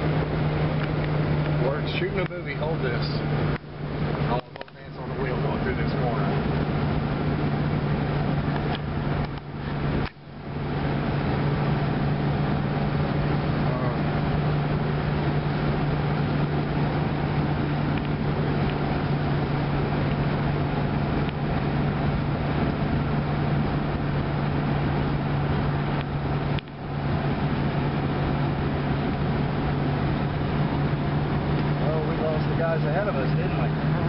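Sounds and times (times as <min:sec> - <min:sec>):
car engine drone: 0:00.0 - 0:34.0
road noise: 0:00.0 - 0:34.0.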